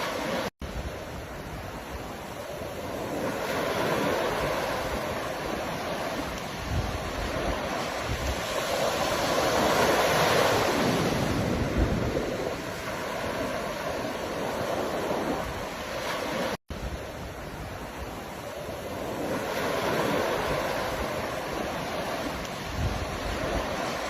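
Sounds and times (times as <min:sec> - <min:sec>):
ocean waves washing on shore: 0:00.0 - 0:24.0.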